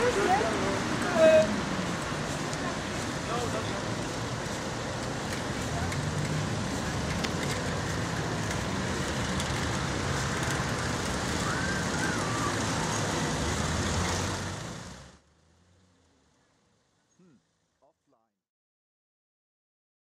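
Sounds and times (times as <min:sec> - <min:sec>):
vehicle engine running nearby: 0:00.0 - 0:17.4
street traffic noise: 0:00.0 - 0:17.7.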